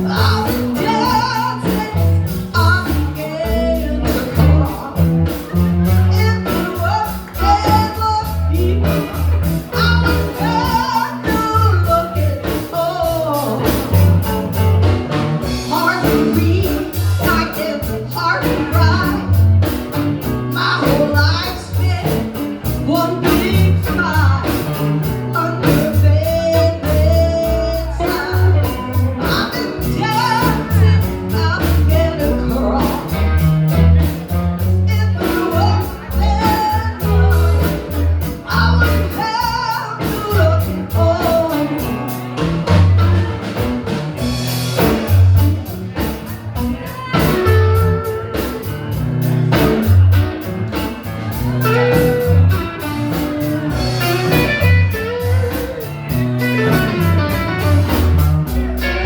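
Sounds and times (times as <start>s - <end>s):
drums: 0.0s - 59.0s
electric guitar: 0.0s - 59.0s
singing lead melody line: 0.0s - 59.0s
walking bass line: 0.0s - 59.0s.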